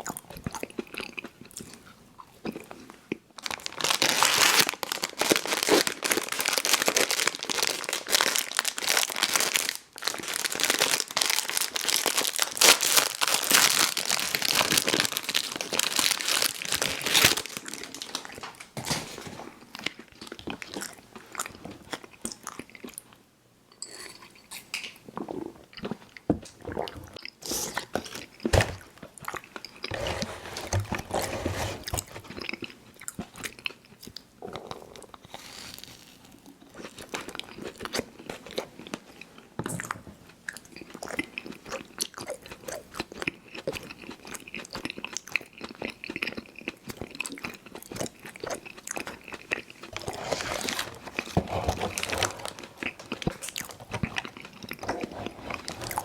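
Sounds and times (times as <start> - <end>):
chewing candy: 0.0 - 18.5, 19.6 - 23.1, 32.3 - 56.0.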